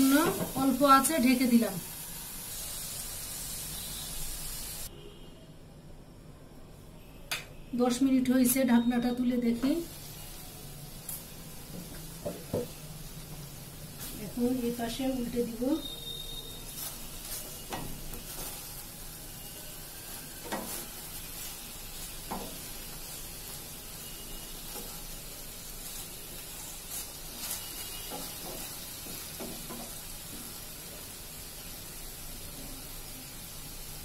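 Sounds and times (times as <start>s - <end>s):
chicken sizzling in oil: 0.0s - 4.9s, 8.5s - 34.0s.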